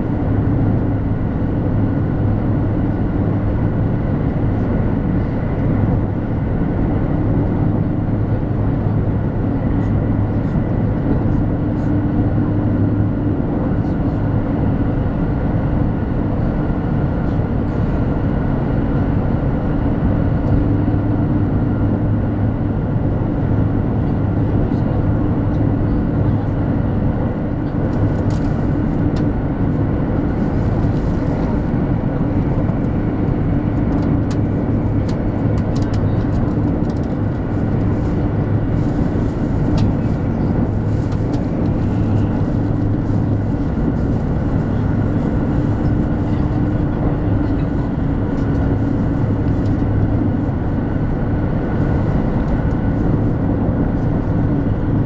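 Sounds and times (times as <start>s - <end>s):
train cabin rumble: 0.0s - 55.0s.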